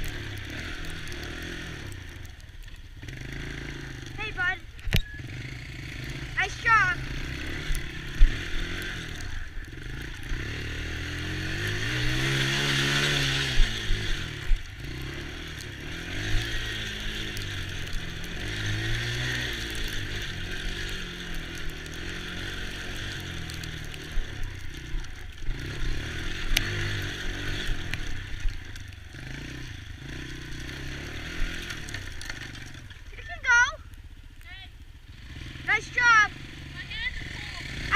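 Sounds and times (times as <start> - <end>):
small atv engine revving: 0.0 - 33.9, 35.0 - 37.9.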